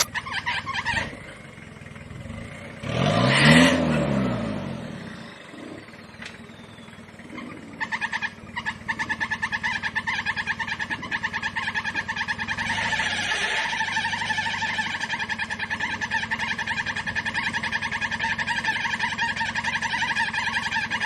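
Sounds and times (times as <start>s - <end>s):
engine revving under load: 2.0s - 21.0s.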